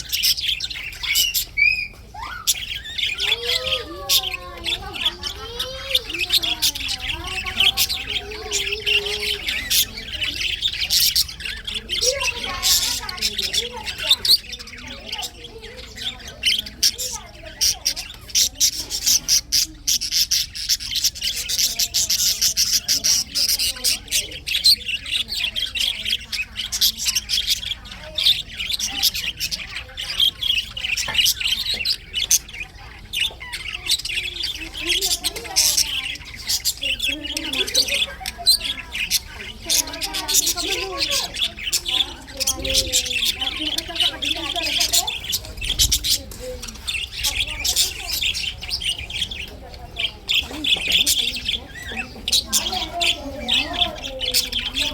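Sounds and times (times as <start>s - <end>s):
budgerigars chattering: 0.0s - 54.9s.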